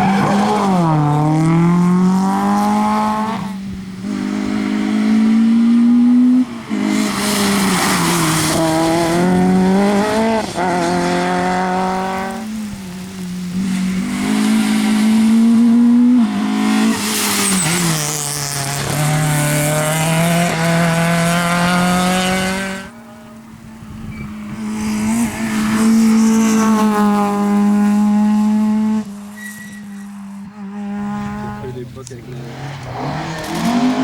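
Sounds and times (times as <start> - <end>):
rally car engine revving: 0.0 - 23.3, 24.2 - 34.0.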